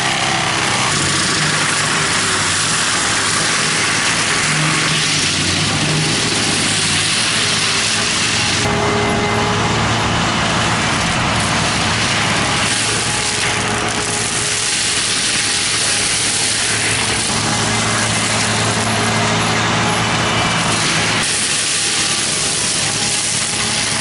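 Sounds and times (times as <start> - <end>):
constant loud noise: 0.0 - 24.0
heavy machine engine running: 0.0 - 24.0.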